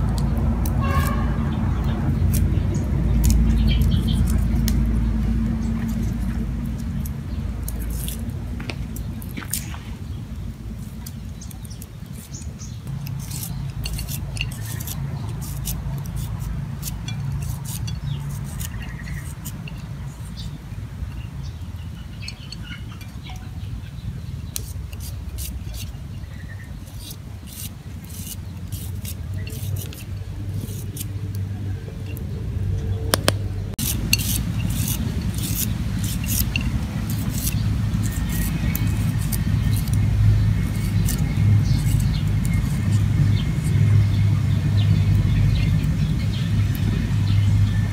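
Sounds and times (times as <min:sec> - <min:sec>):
low engine-like hum: 0:00.0 - 0:47.9.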